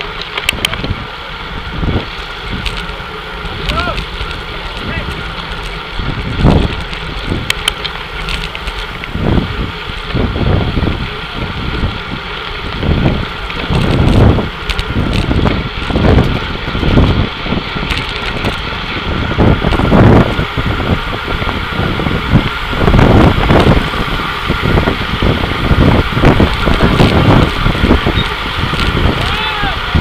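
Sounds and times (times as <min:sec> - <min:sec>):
bicycle tyre noise: 0:00.0 - 0:30.0
wind buffeting microphone: 0:00.0 - 0:30.0.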